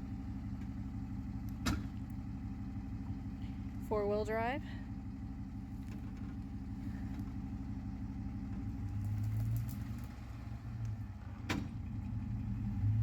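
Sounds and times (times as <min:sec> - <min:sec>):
pickup truck engine humming: 0:00.0 - 0:13.0.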